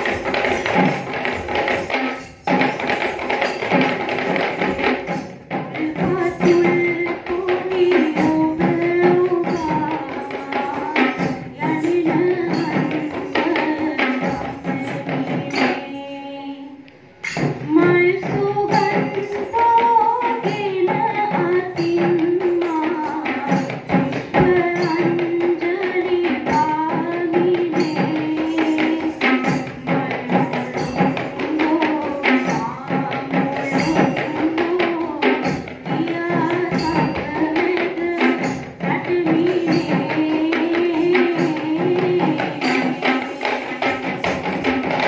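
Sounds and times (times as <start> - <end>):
hand drums beating: 0.0 - 16.3, 17.2 - 45.0.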